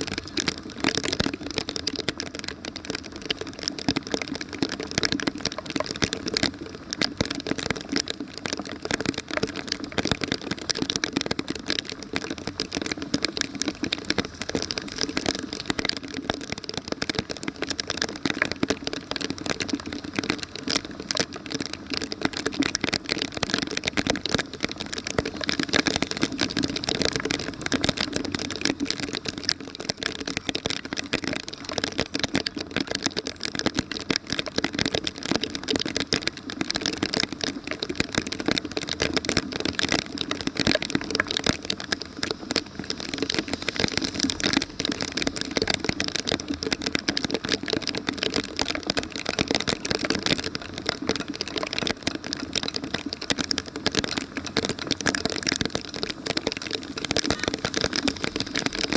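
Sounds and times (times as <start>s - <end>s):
heavy rain crackling: 0.0s - 58.9s.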